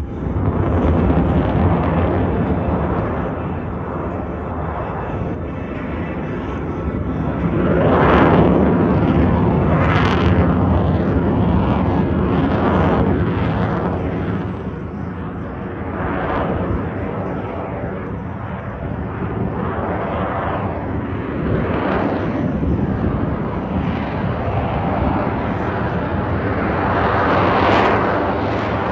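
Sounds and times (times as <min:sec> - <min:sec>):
aircraft engine rumble: 0:00.0 - 0:28.9.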